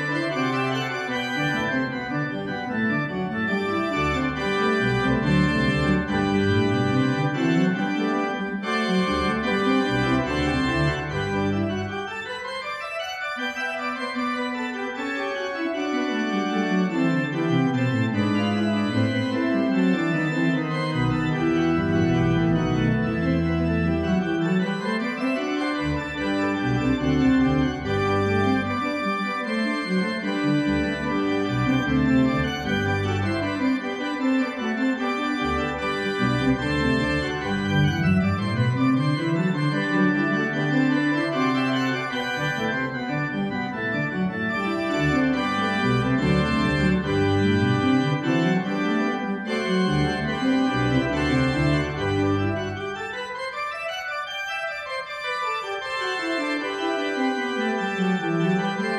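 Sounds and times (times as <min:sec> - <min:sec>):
church organ playing: 0:00.0 - 0:58.9
organ pedal bass line: 0:00.0 - 0:58.9.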